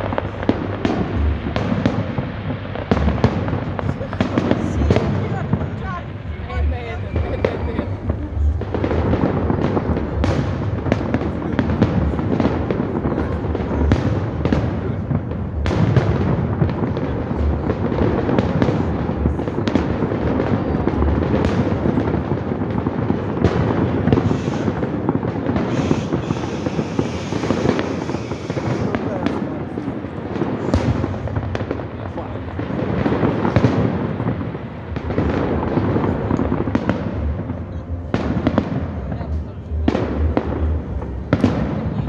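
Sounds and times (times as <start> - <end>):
fireworks bangs and crackle: 0.0 - 42.0.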